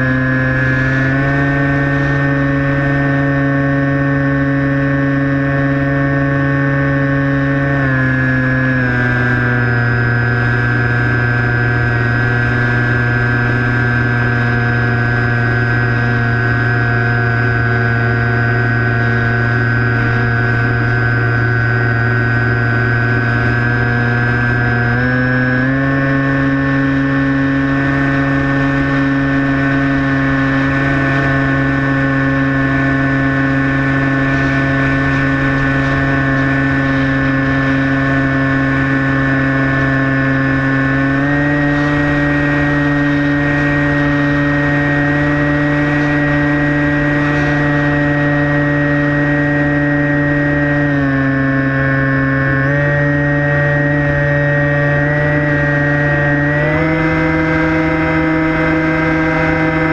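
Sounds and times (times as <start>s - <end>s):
electric motor and propeller running: 0.0s - 59.9s.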